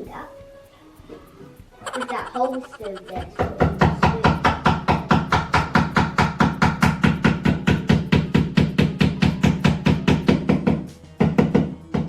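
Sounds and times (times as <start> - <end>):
hammer tapping on wood: 1.9 - 12.0.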